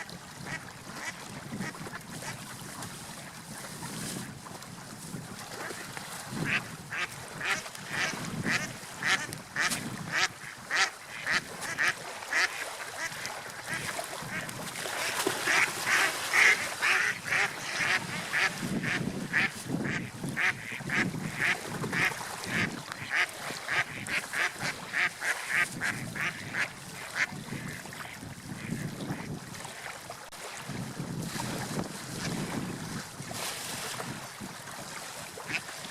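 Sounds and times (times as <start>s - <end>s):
surf: 0.0s - 35.9s
wind: 0.0s - 35.9s.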